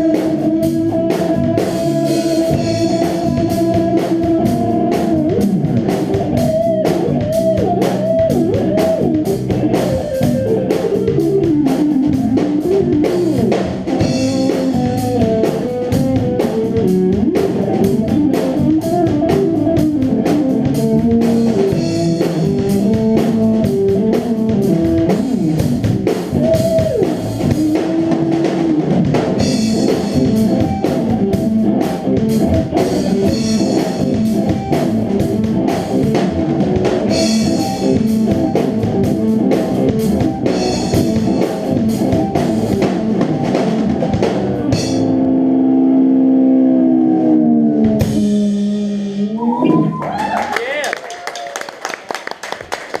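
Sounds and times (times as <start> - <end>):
drum kit: 0.0 - 46.2, 47.8 - 50.6
electric guitar melody: 0.0 - 50.0.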